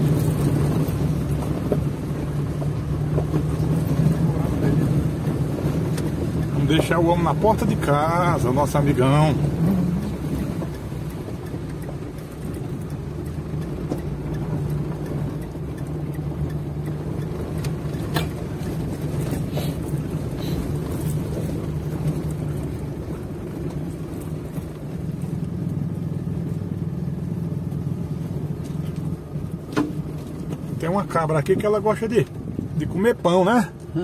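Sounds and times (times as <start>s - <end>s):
road noise: 0.0s - 34.0s
vehicle engine droning: 0.0s - 34.0s.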